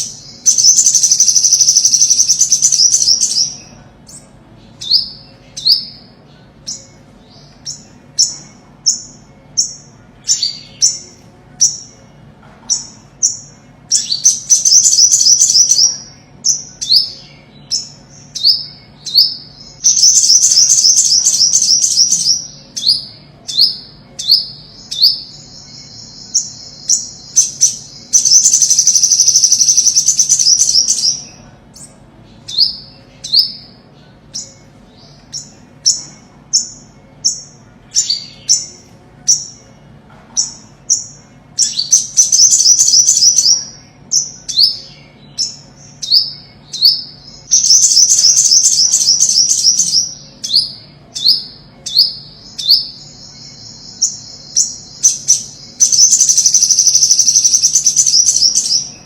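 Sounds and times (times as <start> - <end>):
fast buzzy bird trill: 0.0 - 12.1, 12.7 - 39.7, 40.4 - 59.0.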